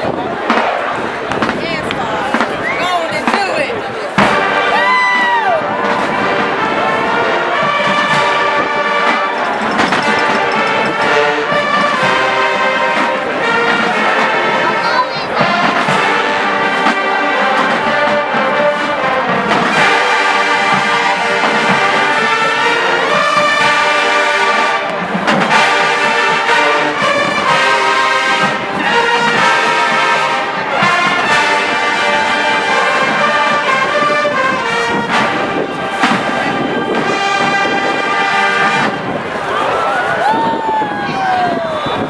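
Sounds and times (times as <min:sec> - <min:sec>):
marching band brass playing: 0:00.0 - 0:40.8.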